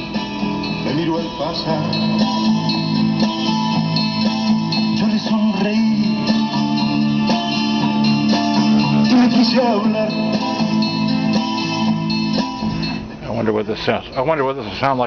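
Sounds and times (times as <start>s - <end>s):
guitar rock music from speakers: 0.0s - 13.2s.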